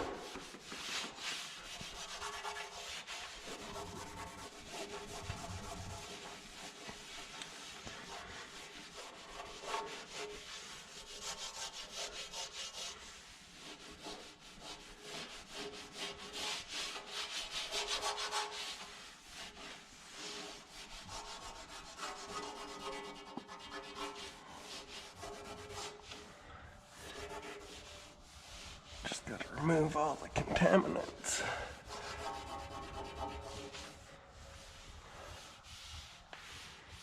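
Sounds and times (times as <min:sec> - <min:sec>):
scrubbing metal panels by hand: 0:00.0 - 0:37.0.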